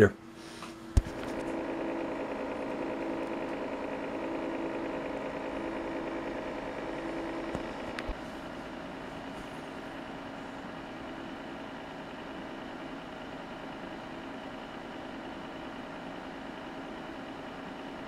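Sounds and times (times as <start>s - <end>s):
cooling fans humming: 0.0s - 18.0s.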